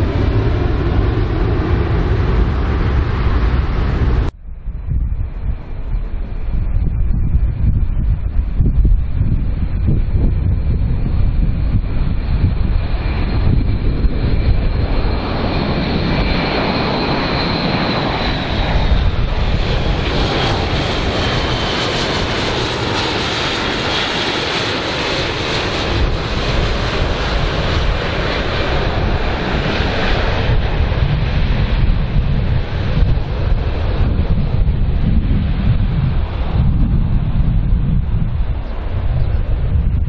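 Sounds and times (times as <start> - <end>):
propeller aircraft flying past: 0.0 - 4.3, 7.3 - 40.0
high engine whine: 0.0 - 40.0.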